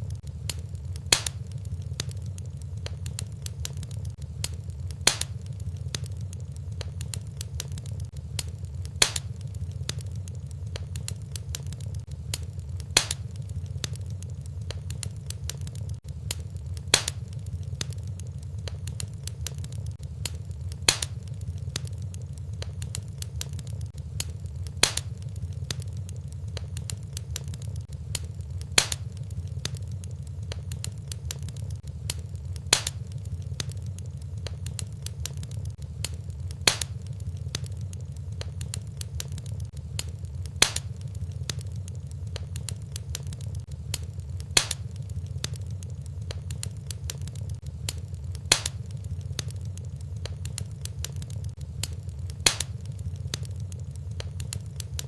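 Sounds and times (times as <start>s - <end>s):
wood fire crackling in fireplace: 0.0s - 55.0s.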